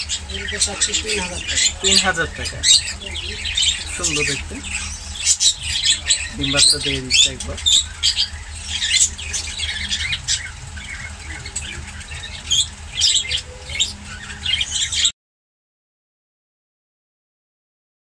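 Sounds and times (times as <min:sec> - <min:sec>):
caged birds squawking and chirping: 0:00.0 - 0:15.1
steady low hum: 0:00.0 - 0:15.1.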